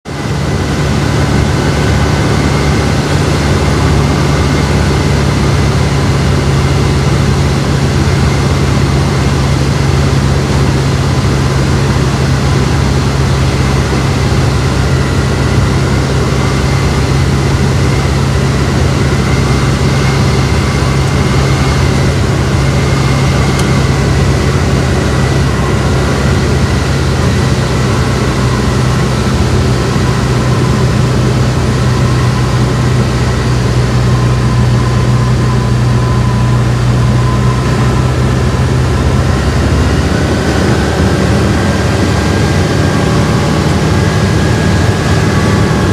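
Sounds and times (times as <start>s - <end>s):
light aircraft engine drone: 0.1s - 45.9s.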